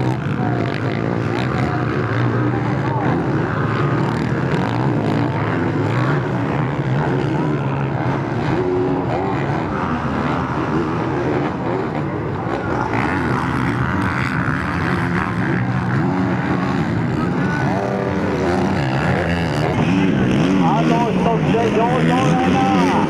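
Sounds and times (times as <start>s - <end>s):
motorcycle engines revving hard: 0.0s - 23.0s.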